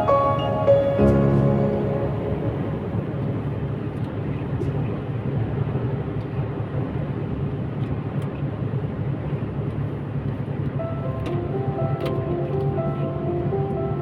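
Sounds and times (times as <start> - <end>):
truck engine and road noise: 0.0 - 14.0.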